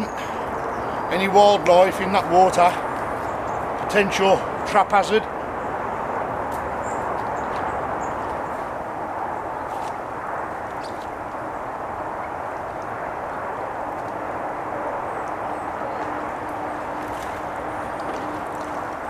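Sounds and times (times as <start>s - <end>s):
outdoor background rush: 0.0s - 19.0s.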